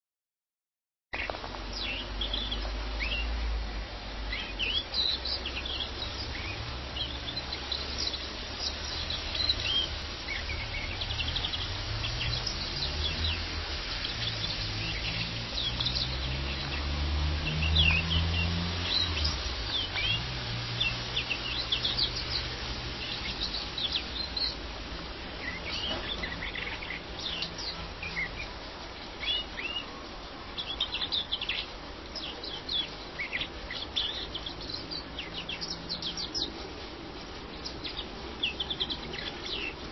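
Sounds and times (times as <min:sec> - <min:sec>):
finch twittering and chirping: 0:01.2 - 0:03.6, 0:04.3 - 0:24.8, 0:25.4 - 0:39.9.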